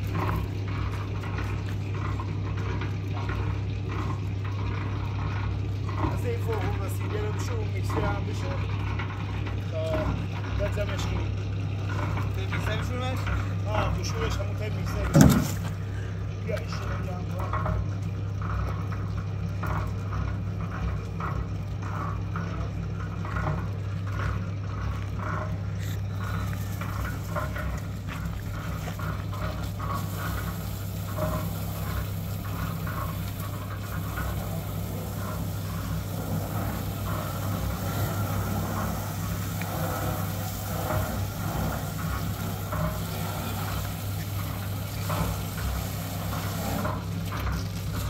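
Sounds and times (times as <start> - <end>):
hose water splashing on metal: 0.0 - 48.0
low machine hum: 0.0 - 48.0.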